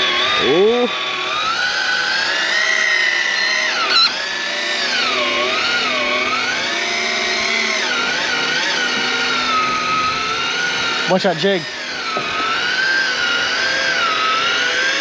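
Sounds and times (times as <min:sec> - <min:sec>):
electric fishing reel motor whining: 0:00.0 - 0:15.0.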